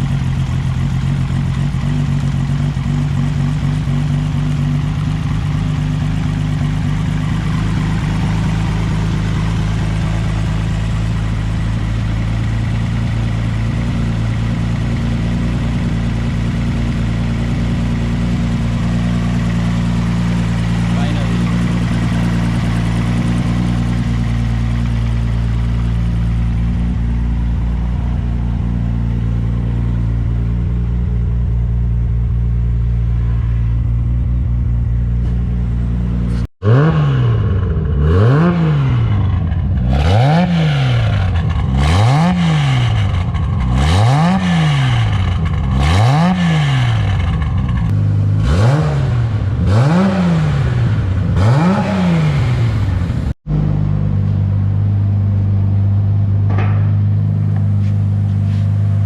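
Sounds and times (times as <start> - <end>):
car engine idling: 0.0 - 59.0
engine revving in throttle blips: 0.0 - 59.0.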